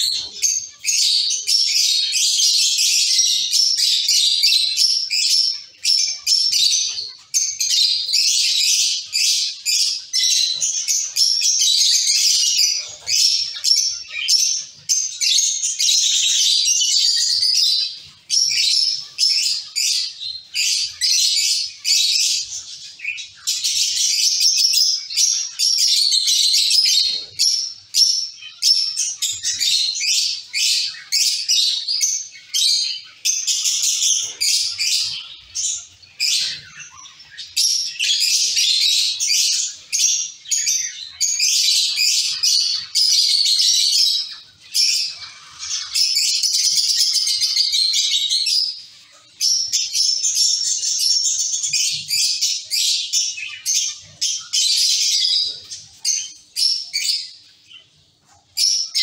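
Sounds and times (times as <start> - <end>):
finches chattering: 0.0 - 59.0.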